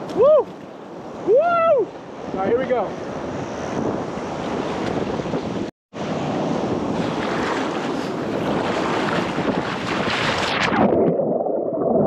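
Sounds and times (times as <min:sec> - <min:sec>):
ocean surf breaking: 0:00.0 - 0:11.6
wind buffeting microphone: 0:01.0 - 0:11.2.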